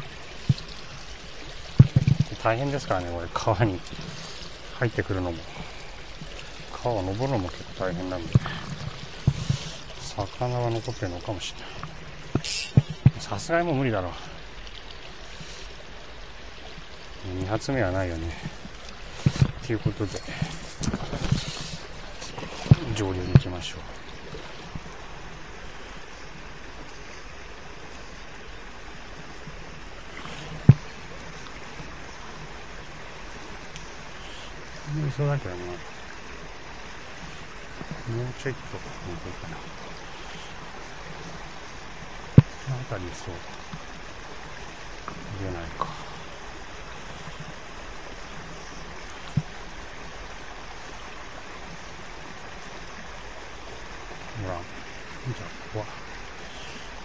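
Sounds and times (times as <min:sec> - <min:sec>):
shallow stream flowing: 0:00.0 - 0:57.0.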